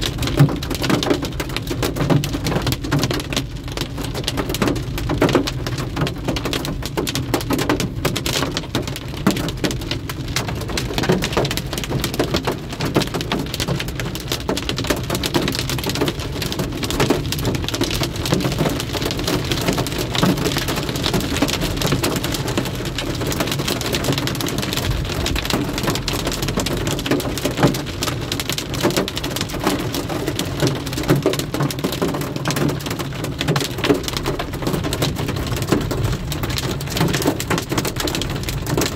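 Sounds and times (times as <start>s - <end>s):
heavy rain on car roof: 0.0s - 38.9s.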